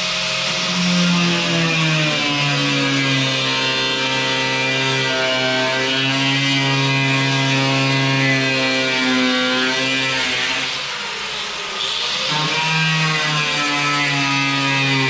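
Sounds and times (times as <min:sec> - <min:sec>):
angle grinder on metal: 0:00.0 - 0:15.0.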